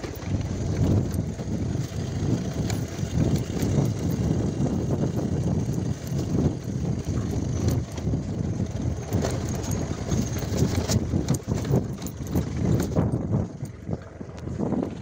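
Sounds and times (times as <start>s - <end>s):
bike knocking and rattling: 0.0s - 15.0s
motorcycle engine rumble: 0.0s - 15.0s
wind buffeting on microphone: 0.0s - 15.0s.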